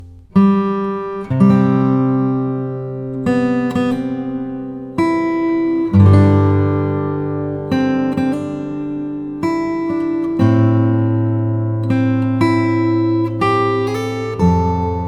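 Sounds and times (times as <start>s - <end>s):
guitar chords strummed: 0.0s - 15.0s.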